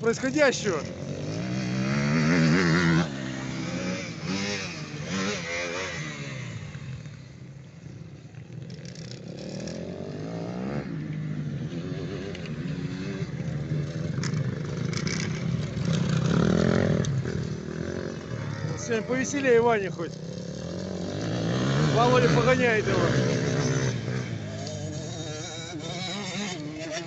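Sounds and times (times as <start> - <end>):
motocross engines revving: 0.0 - 27.0.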